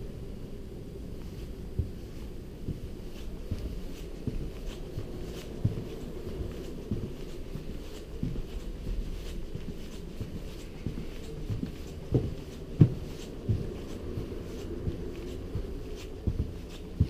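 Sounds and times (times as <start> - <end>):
steady low rumble: 0.0 - 17.0
footsteps on wooden deck: 1.2 - 17.0.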